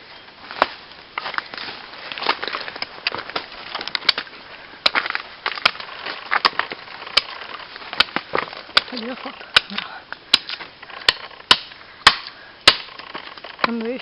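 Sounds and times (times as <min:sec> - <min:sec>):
sharp snaps and crunching: 0:00.5 - 0:14.0.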